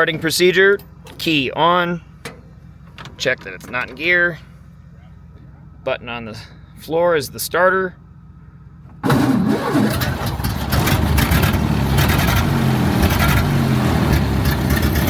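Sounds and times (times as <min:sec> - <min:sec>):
car engine starting and running: 0:00.0 - 0:15.0.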